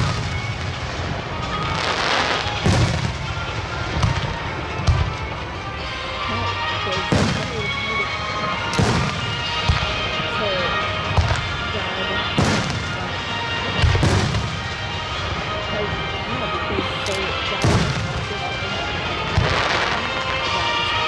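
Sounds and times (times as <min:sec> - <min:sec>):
fireworks booming: 0:00.0 - 0:05.6, 0:06.5 - 0:20.9.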